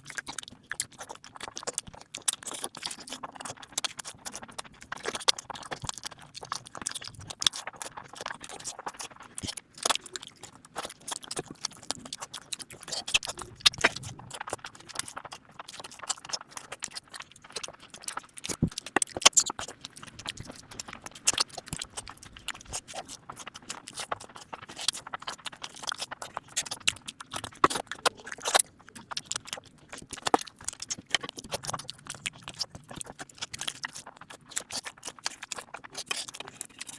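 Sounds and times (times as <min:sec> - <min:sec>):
wet chewing: 0:00.0 - 0:36.9
lip smacks: 0:00.2 - 0:36.9.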